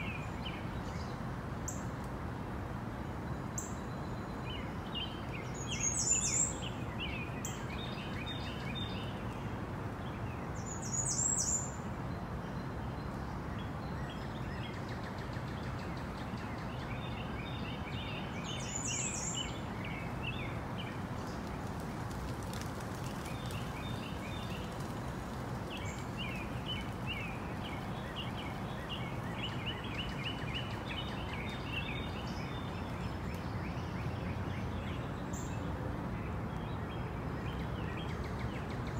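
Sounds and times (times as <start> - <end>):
birds chirping: 3.2 - 35.6.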